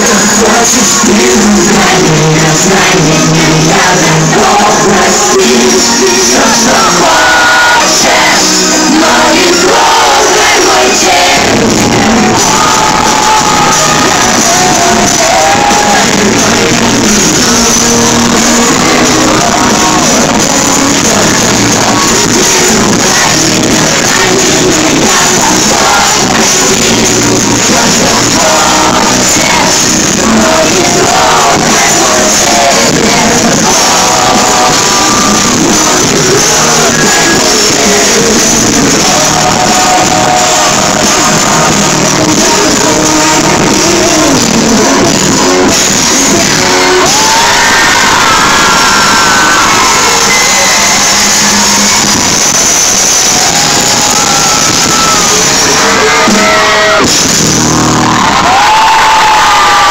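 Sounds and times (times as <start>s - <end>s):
live pop band with singing: 0.0s - 59.9s.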